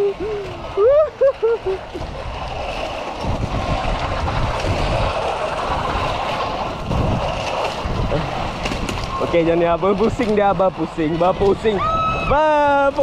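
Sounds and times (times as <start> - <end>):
trolley rumbling along steel rail: 0.0 - 13.0
wind rushing over microphone: 0.0 - 13.0.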